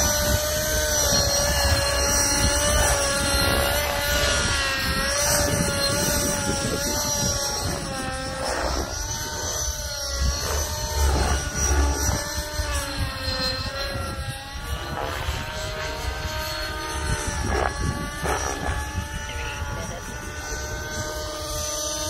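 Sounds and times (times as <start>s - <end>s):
model helicopter engine at high revs: 0.0s - 22.0s
rotors spinning: 0.0s - 22.0s.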